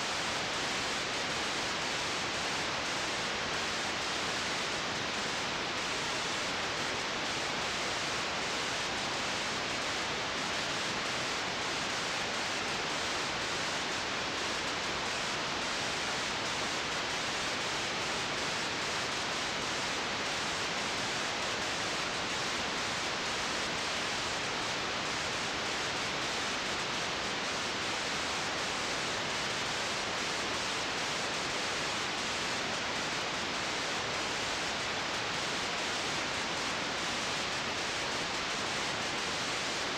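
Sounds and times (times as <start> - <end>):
tape hiss: 0.0 - 39.9.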